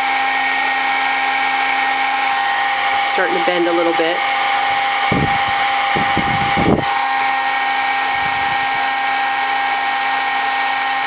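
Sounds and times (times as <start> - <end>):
heat tool fan whine: 0.0 - 11.0
hot air hissing: 1.2 - 11.0.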